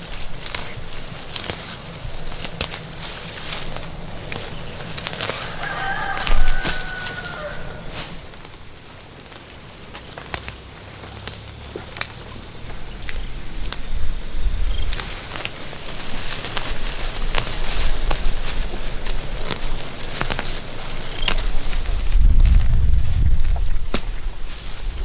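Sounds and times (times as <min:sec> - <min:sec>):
high insect drone: 0:00.0 - 0:25.0.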